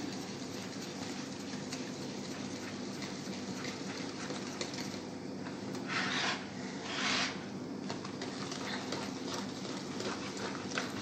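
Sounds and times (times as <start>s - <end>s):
batter mixing in a bowl: 0.0s - 11.0s.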